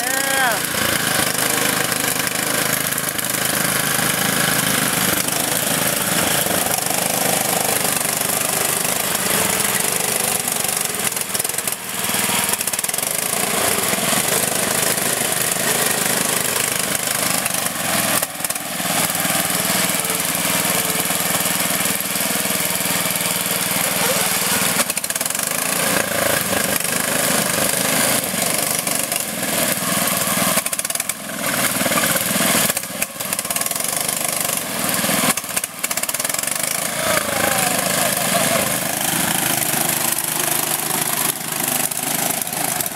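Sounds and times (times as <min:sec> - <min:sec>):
riding lawn mower engines running: 0:00.0 - 0:42.9.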